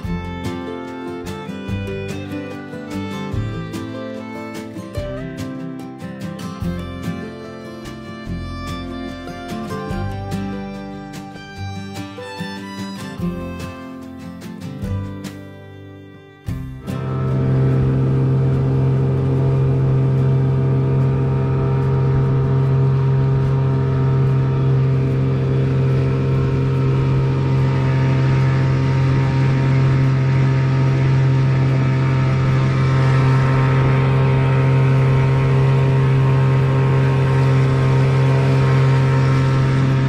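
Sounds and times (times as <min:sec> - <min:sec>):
outboard motor humming: 0:00.0 - 0:40.0.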